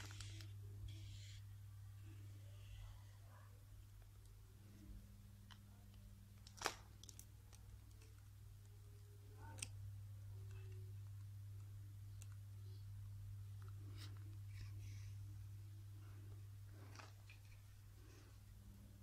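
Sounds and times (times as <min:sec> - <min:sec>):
faint clicks and rustles of thread: 0:02.0 - 0:19.0.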